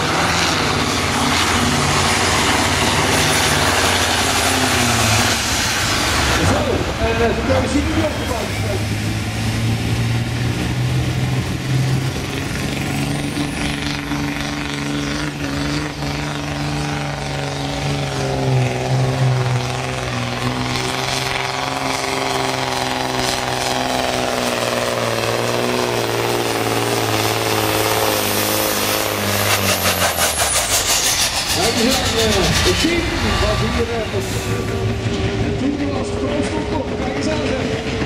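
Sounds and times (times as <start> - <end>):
diesel truck engine under load: 0.0 - 38.0.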